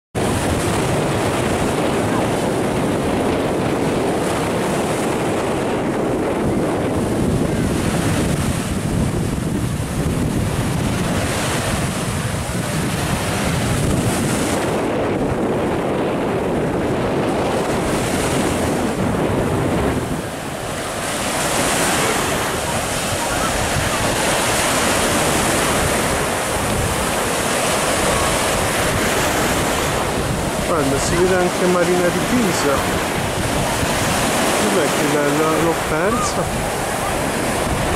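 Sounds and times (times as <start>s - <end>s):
small waves breaking on sand: 0.2s - 37.9s
wind buffeting microphone: 0.2s - 37.9s.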